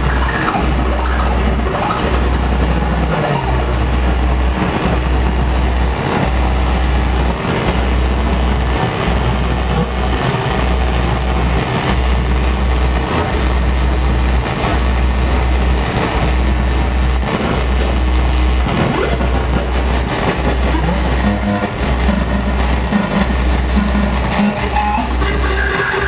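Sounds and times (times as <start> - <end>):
deep bass pulse: 0.0 - 26.0
rumbling wash of noise: 0.0 - 26.0.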